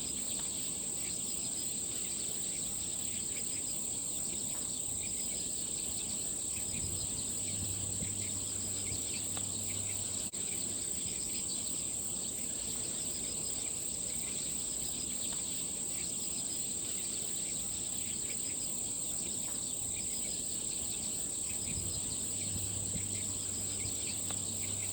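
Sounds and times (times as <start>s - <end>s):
insects trilling: 0.0s - 24.9s.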